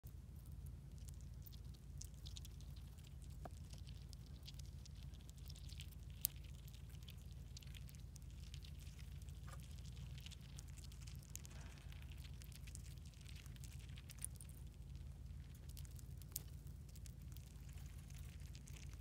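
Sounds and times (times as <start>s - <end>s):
steady low rumble: 0.0s - 19.0s
chipmunks cracking seeds: 0.2s - 19.0s.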